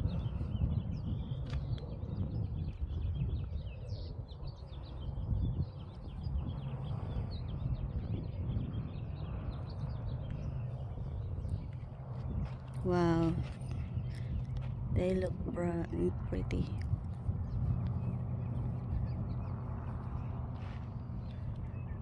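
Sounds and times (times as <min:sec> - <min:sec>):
small birds chirping: 0:00.0 - 0:22.0
wind rumble on microphone: 0:00.0 - 0:22.0.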